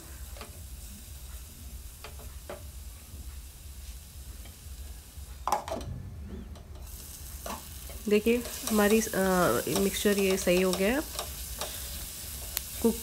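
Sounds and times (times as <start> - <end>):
masala sizzling in oil: 0.0 - 5.7, 6.8 - 13.0.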